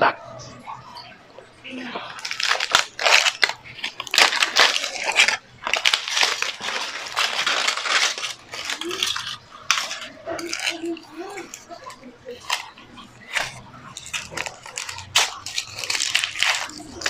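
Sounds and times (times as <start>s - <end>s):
aluminium foil crinkling: 1.8s - 17.0s.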